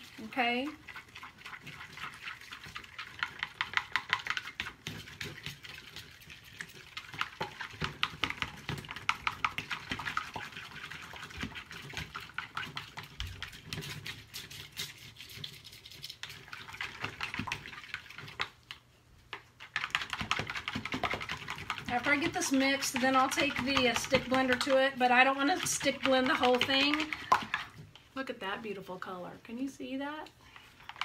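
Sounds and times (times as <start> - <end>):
utensil stirring thick batter: 0.0 - 31.0.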